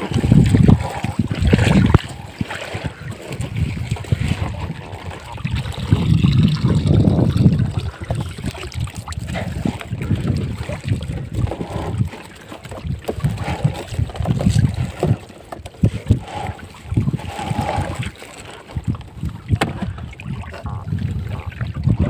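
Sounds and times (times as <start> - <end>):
water sloshing: 0.0 - 22.0.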